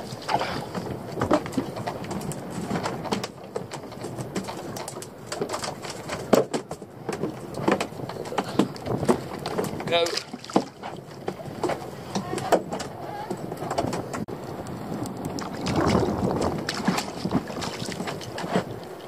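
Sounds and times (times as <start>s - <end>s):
knocks and clicks on boat: 0.0s - 19.0s
water lapping against boat hull: 0.0s - 19.0s
wind on microphone: 0.0s - 19.0s.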